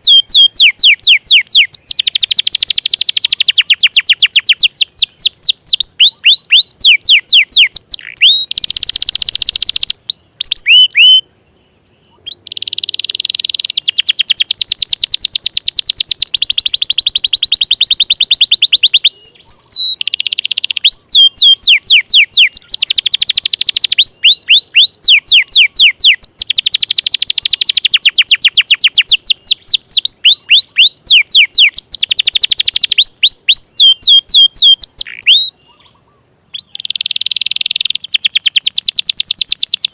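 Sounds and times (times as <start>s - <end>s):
canary singing trills and whistles: 0.0s - 11.3s, 12.0s - 39.9s.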